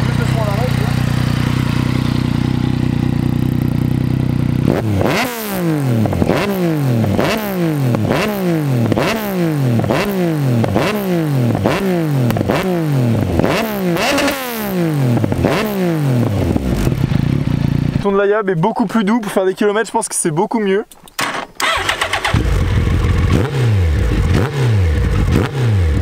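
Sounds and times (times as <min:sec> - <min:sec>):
motorcycle engine revving: 0:00.0 - 0:18.1, 0:21.2 - 0:26.0.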